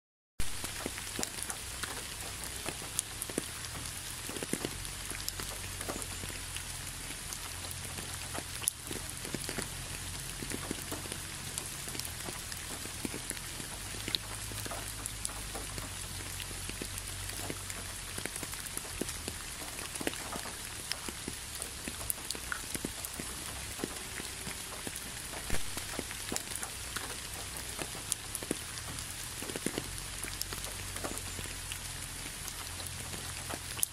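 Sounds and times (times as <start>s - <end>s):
raindrops ticking: 0.4s - 33.9s
steady rain falling: 0.4s - 33.9s.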